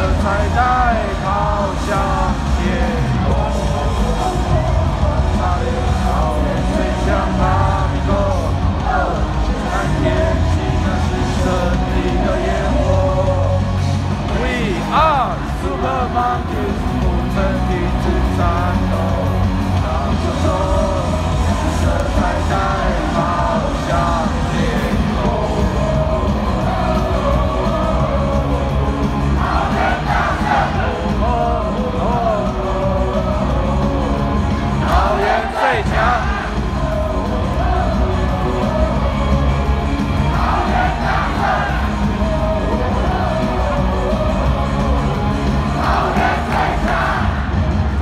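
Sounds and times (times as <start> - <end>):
crowd shouts: 0.0 - 48.0
live rock band: 0.0 - 48.0
voices singing: 0.0 - 48.0.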